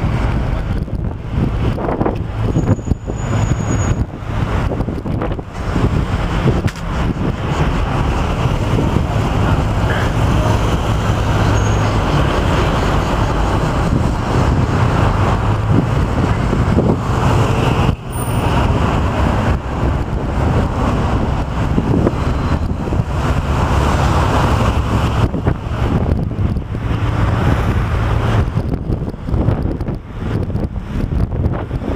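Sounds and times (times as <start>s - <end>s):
bus engine rumble: 0.0s - 31.9s
passing city traffic: 0.0s - 31.9s
road noise: 0.0s - 31.9s.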